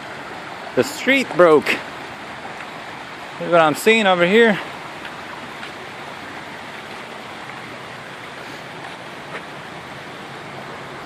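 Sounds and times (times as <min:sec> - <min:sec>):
water rushing from burst pipe: 0:00.0 - 0:11.0.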